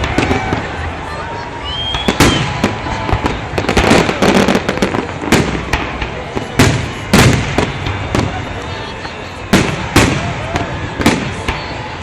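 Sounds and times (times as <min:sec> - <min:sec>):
firework crackling: 0:00.0 - 0:12.0
booming firework bursts: 0:01.9 - 0:12.0.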